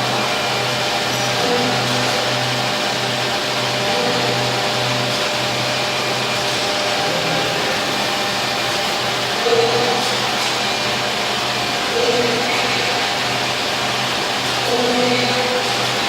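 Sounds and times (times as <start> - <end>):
wood machining centre whirring: 0.0 - 16.0.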